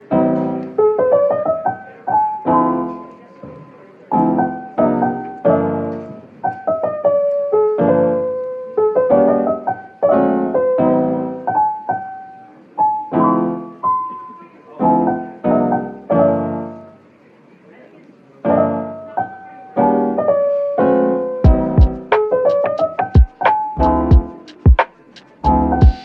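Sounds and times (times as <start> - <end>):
piano music: 0.0 - 17.0, 18.4 - 26.0.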